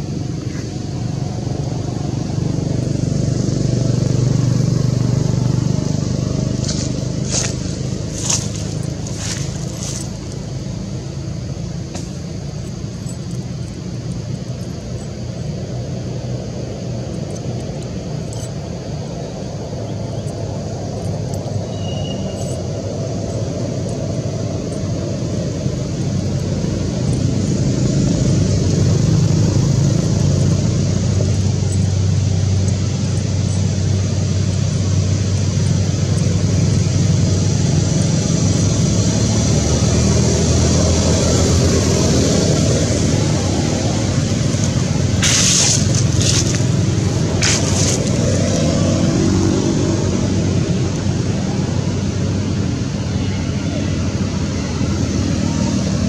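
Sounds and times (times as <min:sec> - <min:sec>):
low engine-like rumble with hiss: 0:00.0 - 0:56.0.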